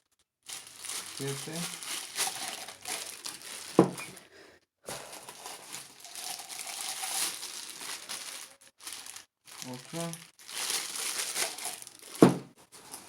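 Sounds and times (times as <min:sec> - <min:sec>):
plastic packaging crinkling: 0:00.4 - 0:04.3, 0:04.9 - 0:13.0.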